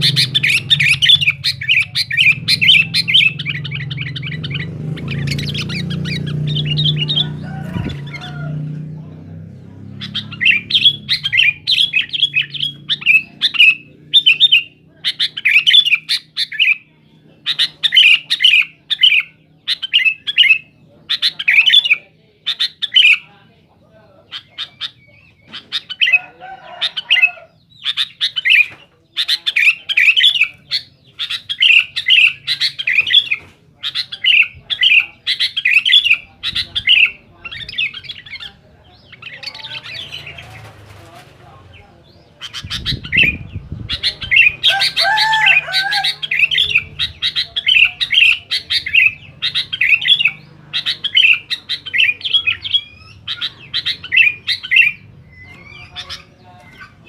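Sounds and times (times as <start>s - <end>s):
bulbul chattering calls: 0.0s - 57.0s.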